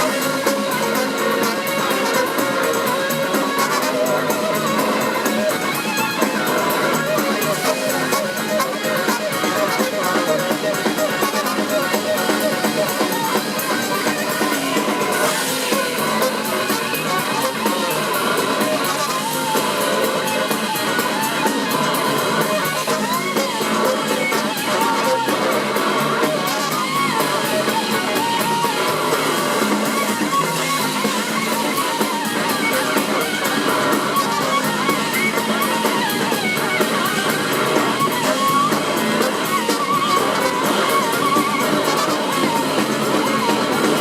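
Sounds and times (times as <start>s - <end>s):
driving drum kit: 0.0s - 44.0s
electric guitar bending notes: 0.0s - 44.0s
live rock band playing: 0.0s - 44.0s.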